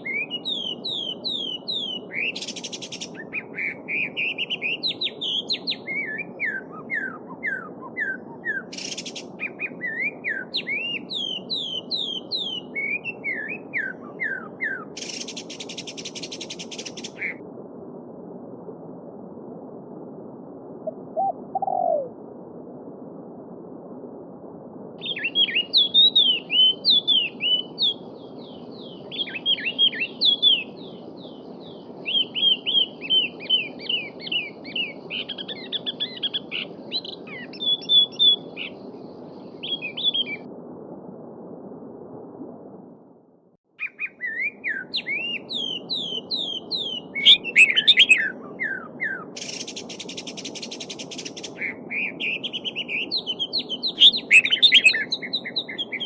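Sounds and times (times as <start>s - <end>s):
songbirds chirping: 0.0s - 17.4s, 25.0s - 40.5s, 43.8s - 56.0s.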